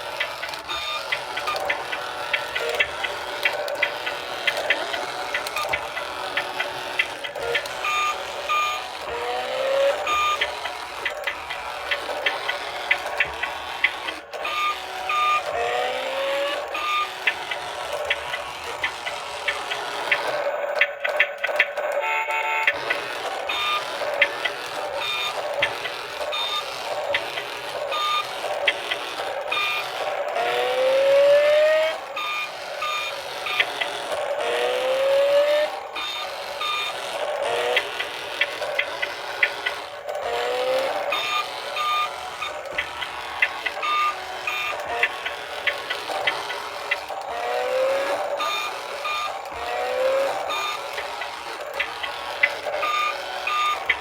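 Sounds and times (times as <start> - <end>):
electronic toy beeps: 0.0 - 54.0.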